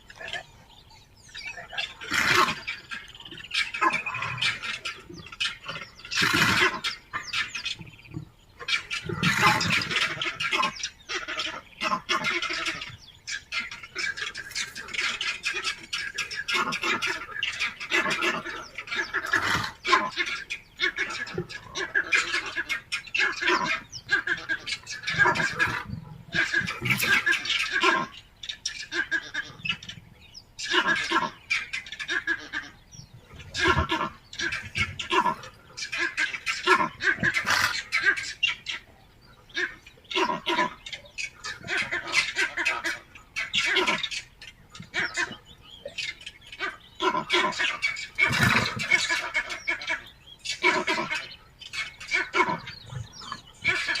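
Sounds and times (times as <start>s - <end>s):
birds calling loudly: 0.0s - 54.0s.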